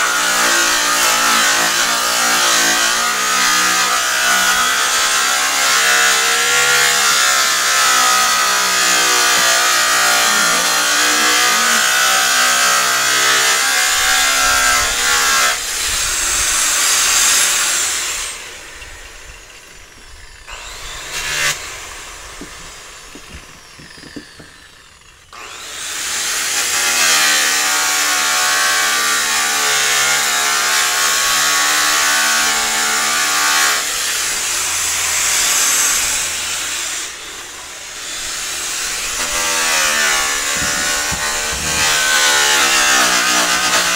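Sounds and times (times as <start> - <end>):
electric polisher whining: 0.0 - 43.9.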